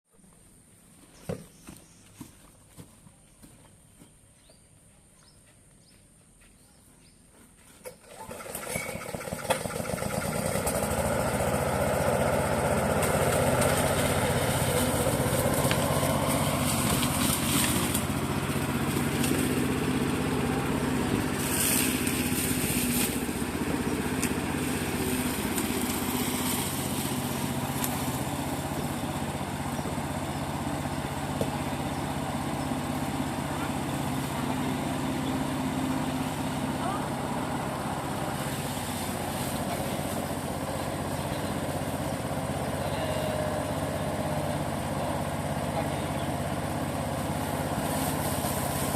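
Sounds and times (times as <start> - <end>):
lawn mower engine running: 7.8 - 48.9.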